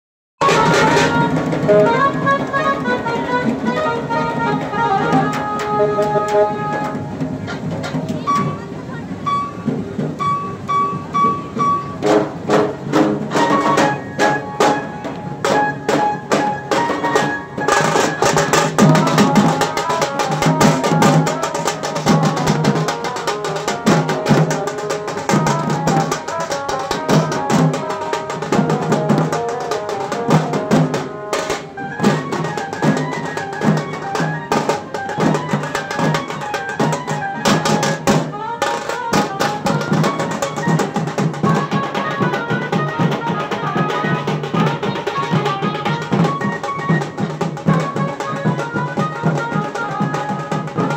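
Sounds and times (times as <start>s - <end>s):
fast drumming: 0.4s - 50.9s
melody over drums: 0.4s - 50.9s.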